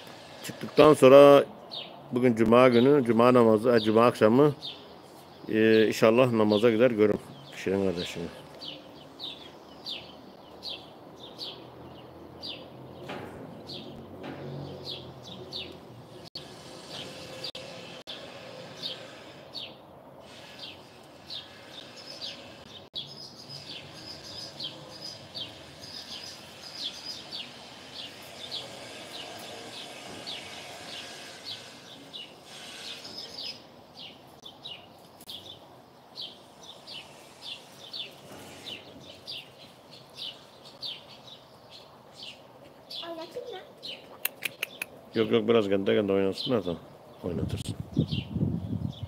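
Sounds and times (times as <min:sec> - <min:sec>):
outdoor background noise: 0:00.0 - 0:49.0
small birds chirping: 0:00.0 - 0:49.0.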